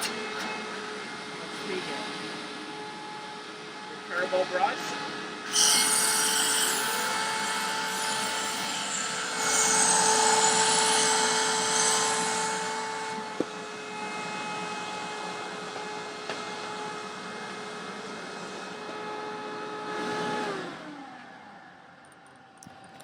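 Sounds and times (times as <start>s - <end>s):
vacuum cleaner whine and air rush: 0.0s - 21.8s.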